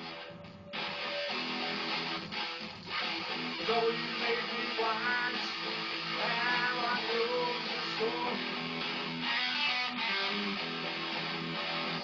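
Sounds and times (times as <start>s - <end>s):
electric guitar blues rock: 0.0s - 12.0s.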